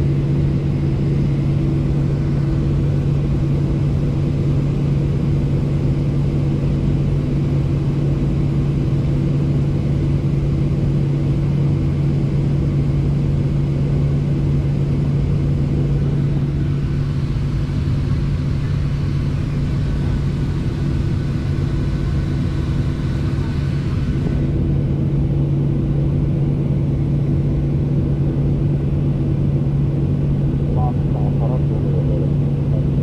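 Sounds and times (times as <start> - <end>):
jet cabin engine drone: 0.0 - 33.0.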